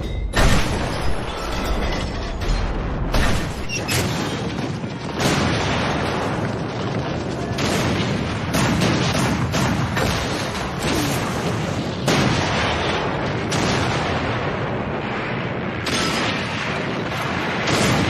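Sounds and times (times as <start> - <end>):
cannon blasts: 0.0 - 18.0.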